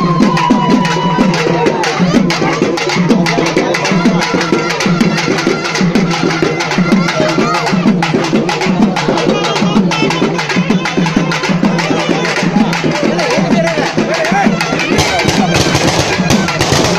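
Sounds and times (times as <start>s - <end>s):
drum ensemble playing: 0.0s - 16.9s.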